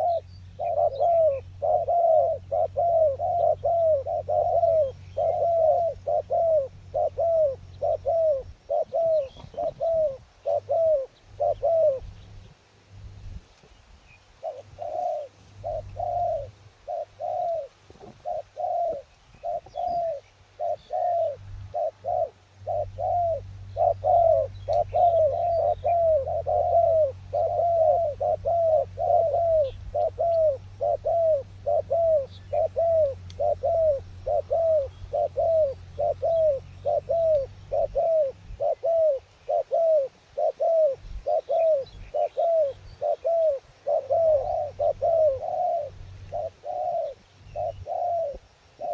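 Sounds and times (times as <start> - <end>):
doves cooing: 0.0 - 12.5, 14.4 - 48.9.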